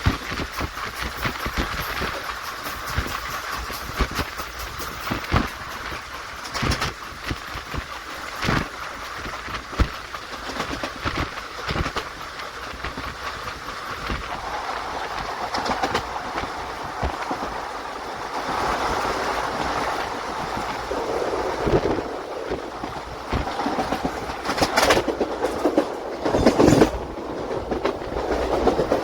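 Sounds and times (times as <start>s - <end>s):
train wheels rumbling on rail: 0.0s - 29.0s
wheels clacking over rail joints: 0.0s - 29.0s.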